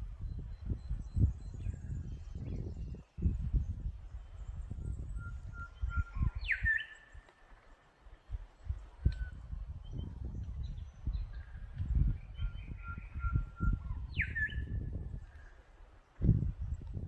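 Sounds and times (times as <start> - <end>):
birds chirping and whistling: 0.2 - 7.3, 8.6 - 15.6.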